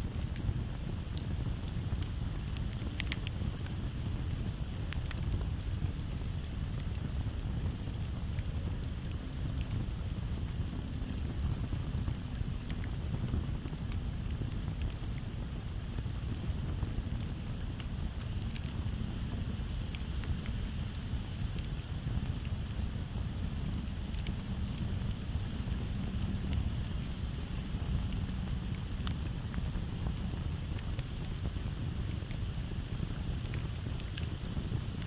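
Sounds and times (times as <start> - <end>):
campfire crackling and popping: 0.0 - 35.0
crickets chirring: 0.0 - 35.0.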